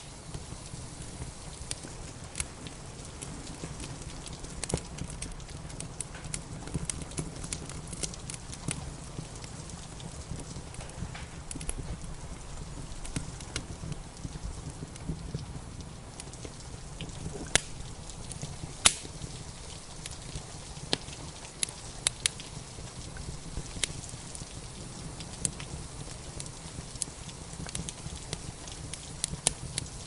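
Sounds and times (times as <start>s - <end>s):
rain hissing: 0.0s - 30.0s
wood fire crackling: 0.0s - 30.0s.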